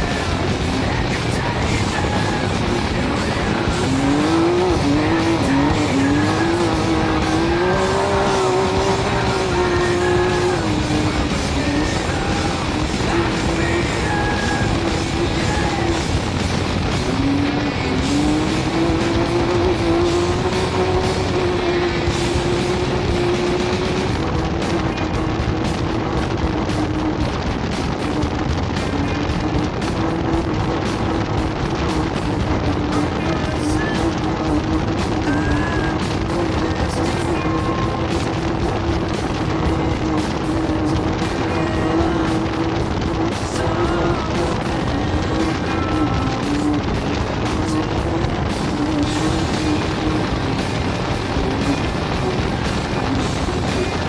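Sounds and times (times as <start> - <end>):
music: 0.0 - 54.0
vehicle engine accelerating: 0.0 - 54.0.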